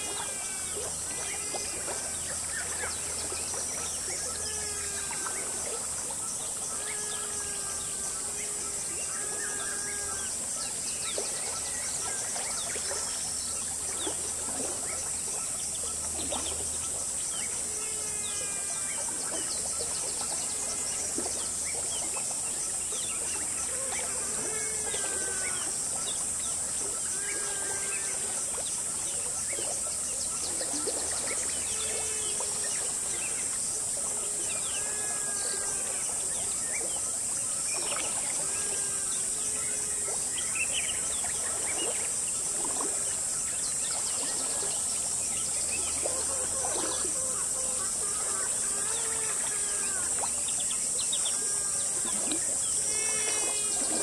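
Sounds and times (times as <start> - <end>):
insects droning: 0.0 - 54.0
stream babbling: 0.0 - 54.0.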